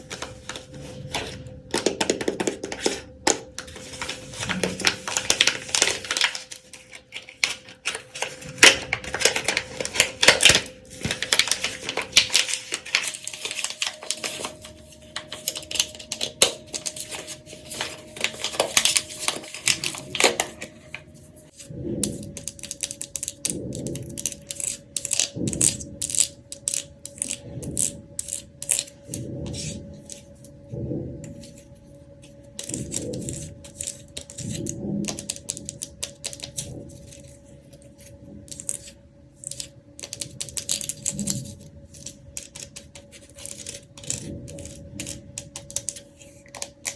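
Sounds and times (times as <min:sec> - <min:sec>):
dry soap crackling: 0:00.0 - 0:46.9.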